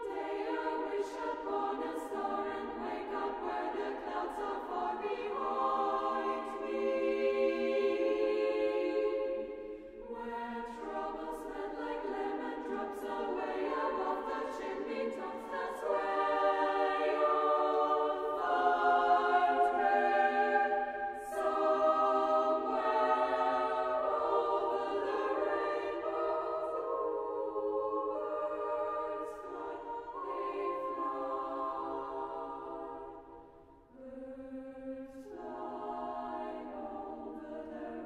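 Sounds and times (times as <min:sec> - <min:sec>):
girls choir singing a cappella: 0:00.0 - 0:38.0.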